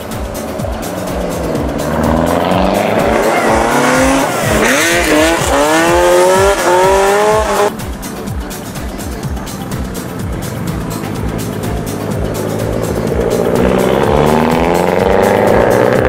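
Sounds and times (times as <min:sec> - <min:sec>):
car engine revving: 0:00.0 - 0:07.7, 0:10.3 - 0:16.0
background music with steady beat: 0:00.0 - 0:16.0.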